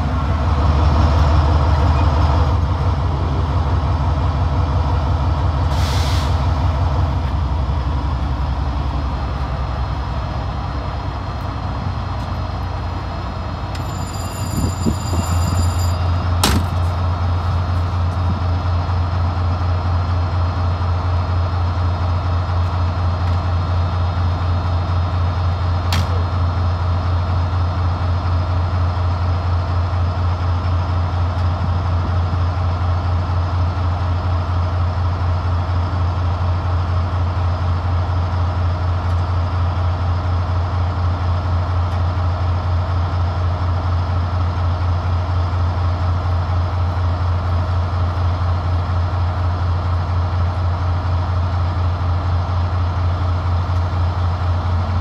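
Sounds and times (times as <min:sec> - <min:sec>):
diesel train engine idling: 0:00.0 - 0:55.0.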